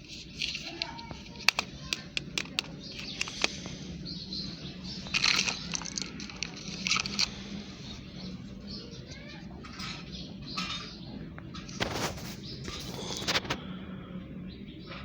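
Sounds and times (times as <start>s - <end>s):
crackling rustles: 0.0s - 10.9s, 11.5s - 13.6s
steady low hum: 0.0s - 15.0s.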